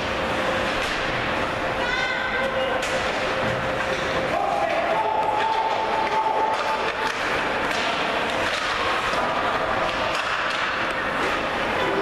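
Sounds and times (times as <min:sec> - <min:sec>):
hockey sticks and puck clacking: 0:00.0 - 0:01.2, 0:02.8 - 0:12.0
spectators' voices: 0:01.5 - 0:12.0.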